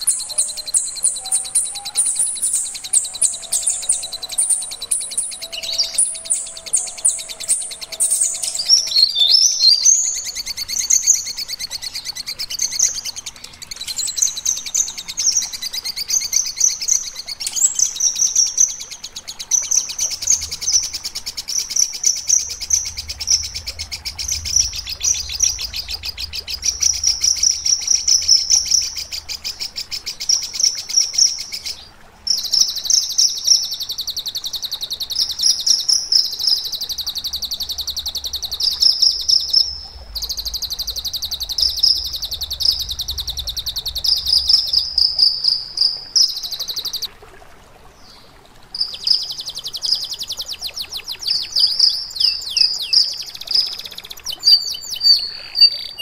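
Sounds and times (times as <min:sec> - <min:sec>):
songbird chattering song: 0:00.0 - 0:47.1, 0:48.8 - 0:56.0.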